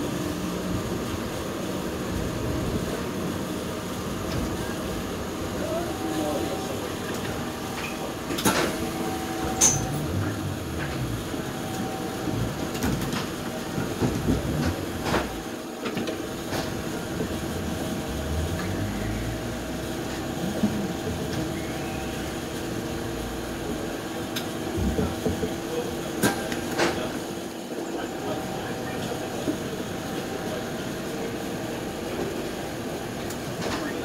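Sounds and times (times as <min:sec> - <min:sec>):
streetcar electric hum and rumble: 0:00.0 - 0:34.0.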